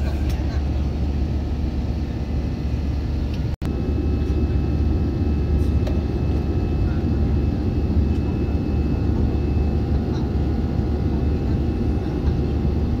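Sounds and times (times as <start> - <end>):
jet engines: 0.0 - 13.0.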